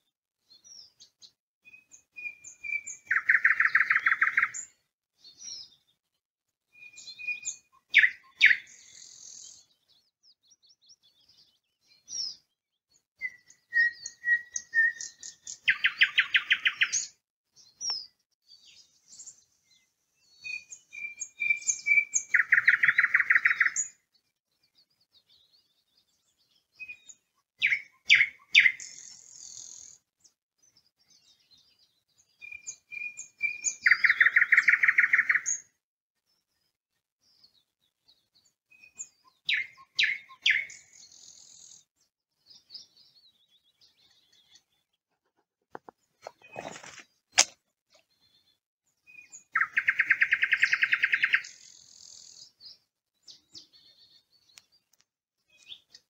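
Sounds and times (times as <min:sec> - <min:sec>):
nightingale singing: 0:00.5 - 0:05.9, 0:06.7 - 0:24.0, 0:24.8 - 0:30.0, 0:31.0 - 0:35.7, 0:37.3 - 0:44.9, 0:45.8 - 0:56.0.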